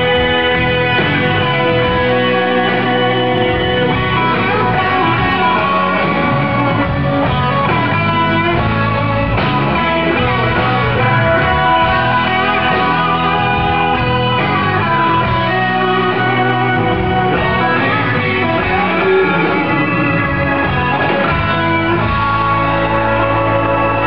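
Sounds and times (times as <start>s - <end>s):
electric guitar: 0.0s - 24.0s
live country band: 0.0s - 24.0s.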